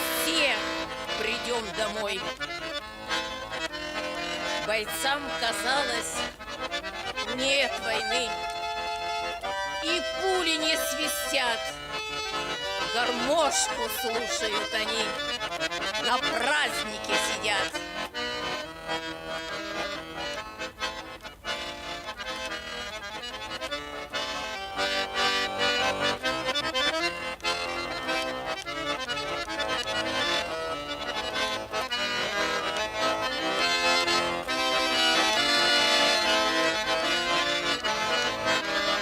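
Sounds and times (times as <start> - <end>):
accordion playing folk tune: 0.0 - 39.0.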